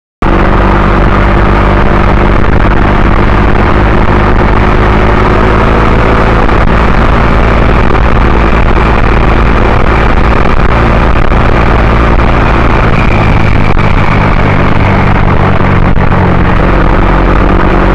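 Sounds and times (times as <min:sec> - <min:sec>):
road and wind noise: 0:00.2 - 0:17.9
vehicle engine drone: 0:00.2 - 0:17.9.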